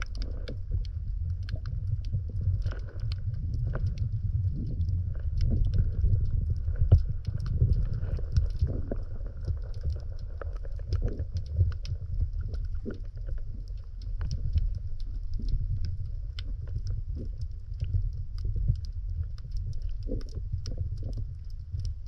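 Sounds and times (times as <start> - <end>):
small underwater clicks: 0.0 - 22.0
underwater low rumble: 0.0 - 22.0.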